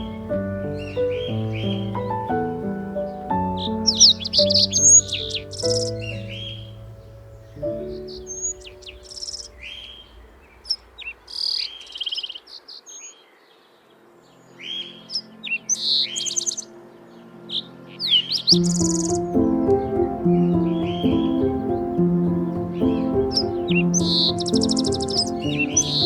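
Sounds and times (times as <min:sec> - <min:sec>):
soft background music: 0:00.0 - 0:11.7, 0:13.8 - 0:26.0
birds calling: 0:00.0 - 0:13.7, 0:14.3 - 0:26.0.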